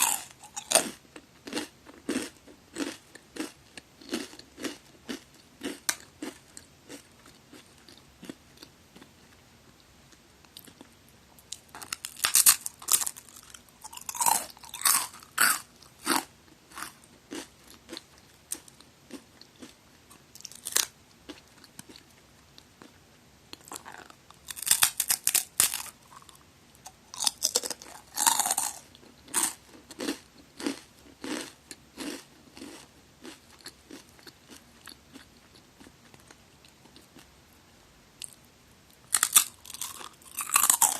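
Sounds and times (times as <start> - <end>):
cracker crunching and chewing: 0.0 - 37.3, 38.2 - 40.9.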